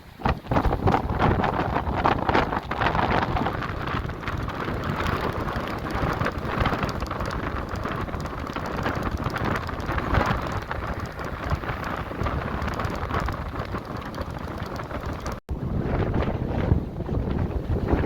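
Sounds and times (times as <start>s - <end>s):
low rumble: 0.2s - 18.0s.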